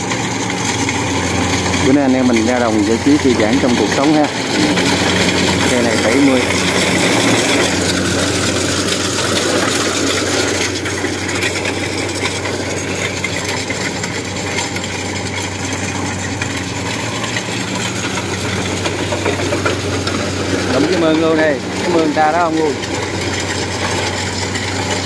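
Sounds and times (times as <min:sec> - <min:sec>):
combine harvester engine drone: 0:00.0 - 0:25.0
threshing machinery: 0:00.0 - 0:25.0.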